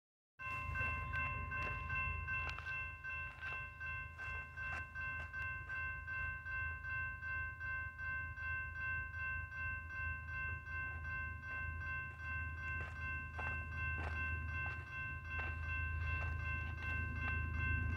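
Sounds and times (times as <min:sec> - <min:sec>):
crossing warning bell ringing: 0:00.4 - 0:17.9.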